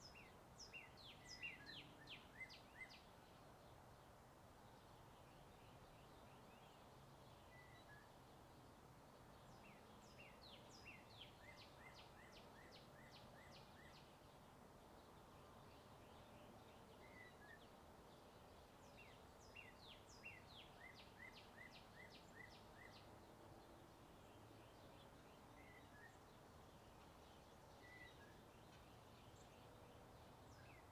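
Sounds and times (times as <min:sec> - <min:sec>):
songbird chirping: 0:00.0 - 0:30.9.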